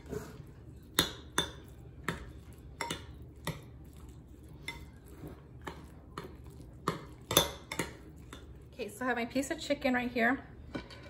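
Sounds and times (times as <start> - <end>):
soft squish of egg salad mixing: 0.0 - 9.3.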